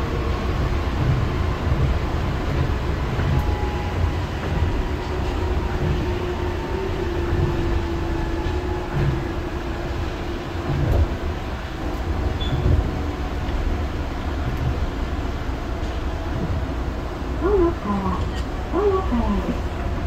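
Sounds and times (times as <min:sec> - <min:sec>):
monorail train rumbling: 0:00.0 - 0:20.0.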